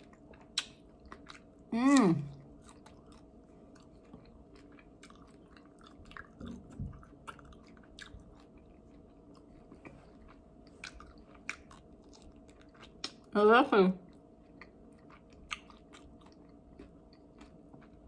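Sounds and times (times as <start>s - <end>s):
person chewing wet mouth clicks: 0.0s - 1.5s, 2.6s - 13.3s, 14.4s - 18.0s.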